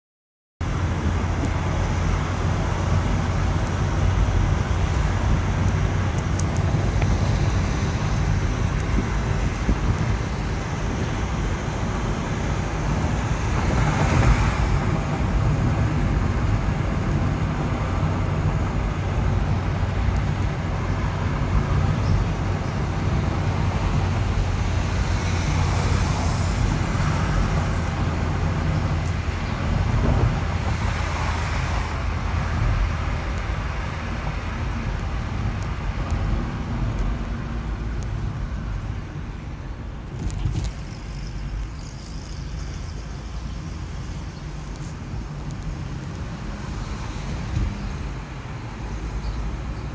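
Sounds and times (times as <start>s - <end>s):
road and engine noise in car: 0.6s - 49.9s.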